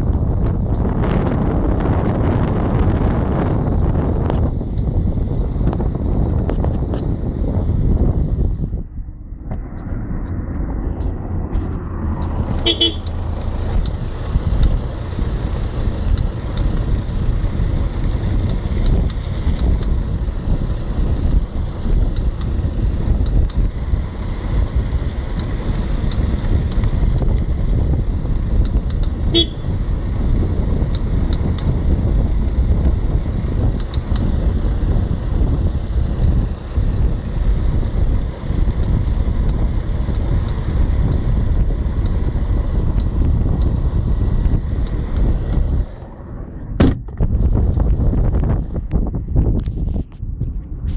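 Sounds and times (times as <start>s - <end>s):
road and wind rumble: 0.0s - 50.9s.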